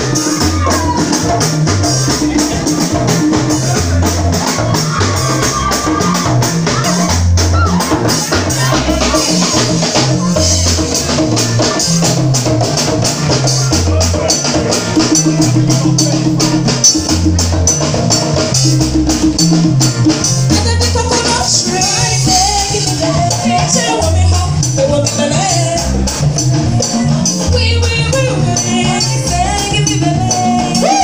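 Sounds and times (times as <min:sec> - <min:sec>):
bass line: 0:00.0 - 0:31.0
drums: 0:00.0 - 0:31.0
live band dance groove: 0:00.0 - 0:31.0
shaker and tambourine percussion: 0:00.0 - 0:31.0.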